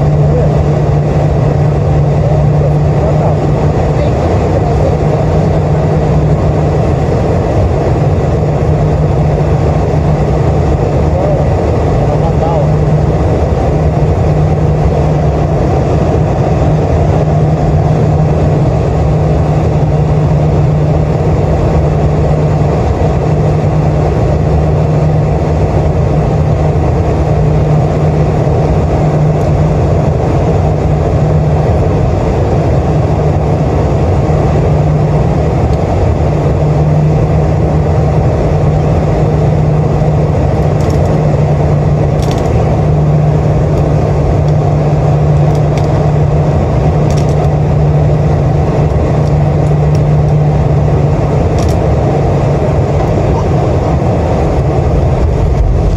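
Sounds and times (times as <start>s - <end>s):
jet engine and airflow rush: 0.0s - 55.9s.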